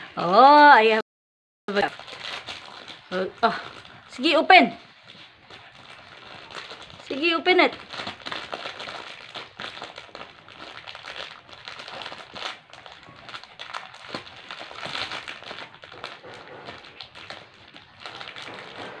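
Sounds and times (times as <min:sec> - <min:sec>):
plastic wrapper crinkling: 0:01.7 - 0:19.0.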